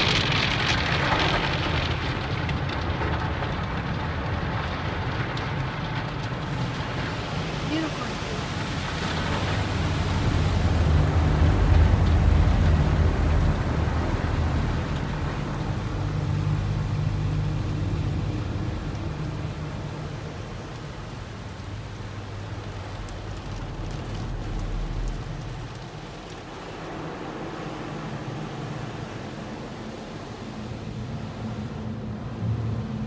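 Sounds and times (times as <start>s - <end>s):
water spray drumming on car: 0.0s - 33.0s.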